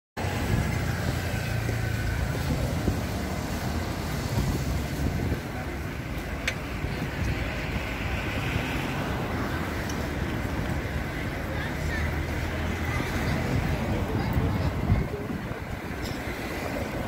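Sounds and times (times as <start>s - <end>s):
low street rumble: 0.2s - 17.0s.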